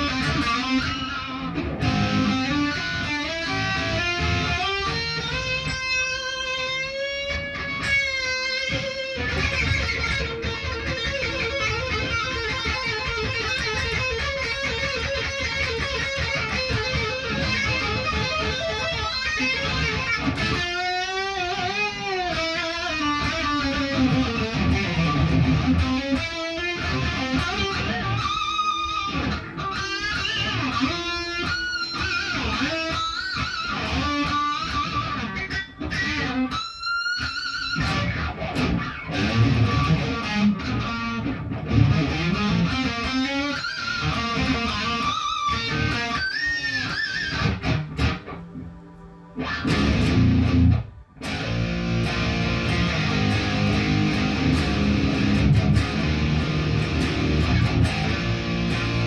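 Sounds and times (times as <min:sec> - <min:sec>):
electric guitar lead lines: 0:00.0 - 0:59.0.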